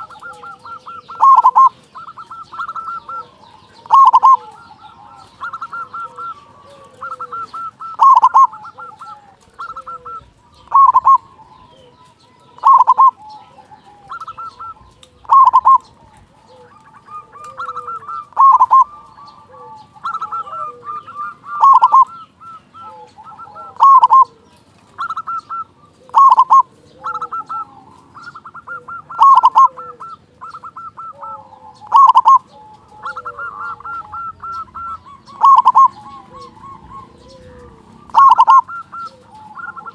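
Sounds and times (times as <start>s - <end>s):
dove singing rolling coo: 0.0s - 39.9s.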